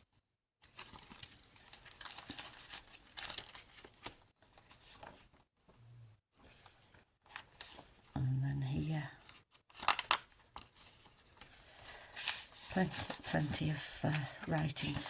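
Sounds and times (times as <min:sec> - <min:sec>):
paper pages rustling: 0:00.6 - 0:05.8, 0:06.4 - 0:08.1, 0:09.2 - 0:15.0.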